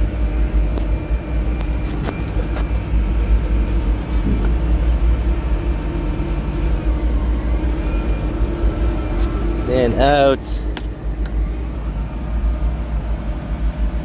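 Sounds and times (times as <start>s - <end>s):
chiller machinery and fans humming: 0.0s - 14.0s.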